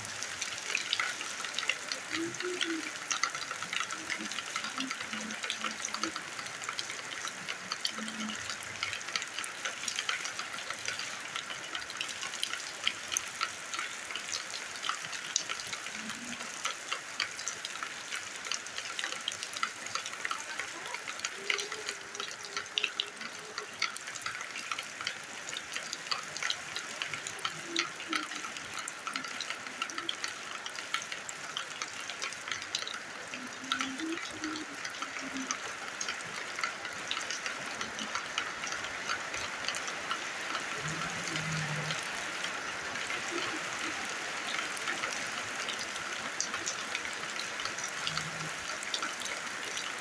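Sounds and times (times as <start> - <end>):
rain patter on ground: 0.0 - 50.0.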